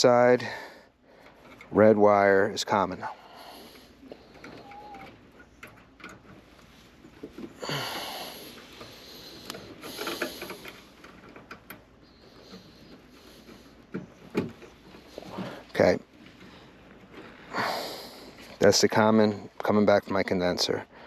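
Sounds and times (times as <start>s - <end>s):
wires rustling and scraping: 1.1s - 20.8s.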